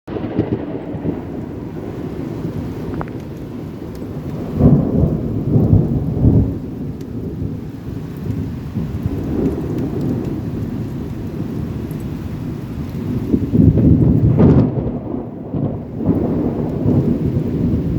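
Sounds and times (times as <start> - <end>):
rain hissing: 0.1 - 17.9
thunder rumbling: 0.1 - 17.9.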